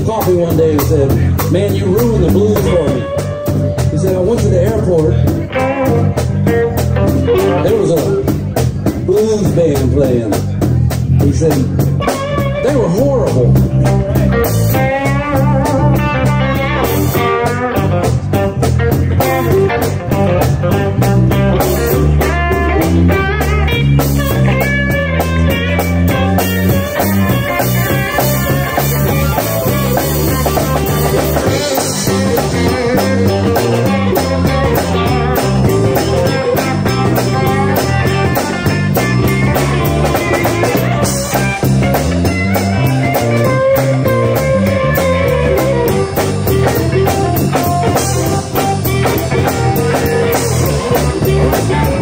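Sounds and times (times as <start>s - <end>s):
bass guitar: 0.0s - 52.0s
drum kit beat: 0.0s - 52.0s
lead guitar bending notes: 0.0s - 52.0s.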